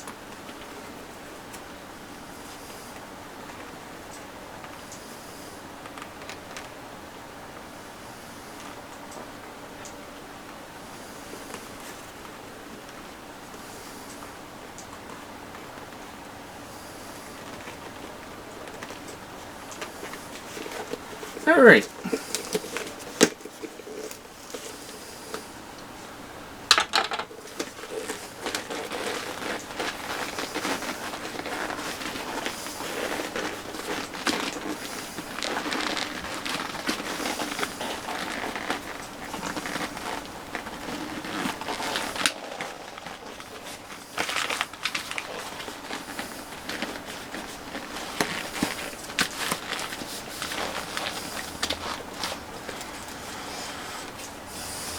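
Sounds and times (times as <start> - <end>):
crinkling rustling handling noise: 0.0 - 54.9.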